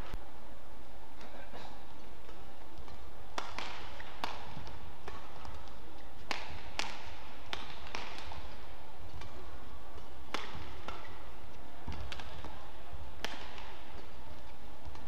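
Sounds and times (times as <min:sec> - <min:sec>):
low arena hum: 0:00.0 - 0:15.0
rackets striking shuttlecock: 0:02.2 - 0:15.0.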